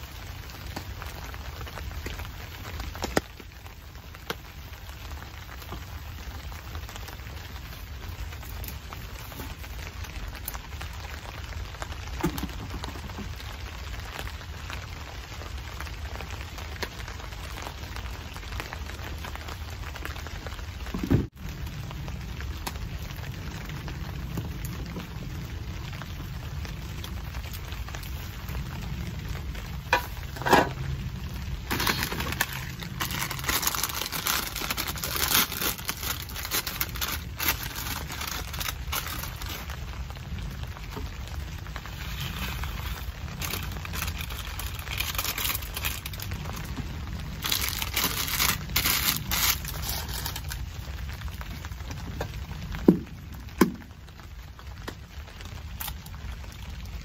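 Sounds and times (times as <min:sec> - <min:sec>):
crackling and rustling: 0:00.0 - 0:57.0
rain on a tarp: 0:00.0 - 0:57.0.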